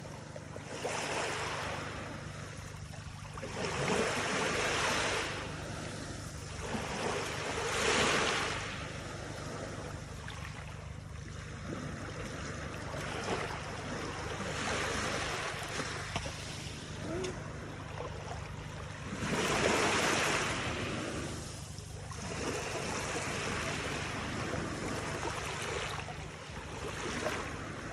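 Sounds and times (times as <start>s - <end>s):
steady low rumble: 1.5s - 27.9s
water washing in waves: 3.0s - 27.9s.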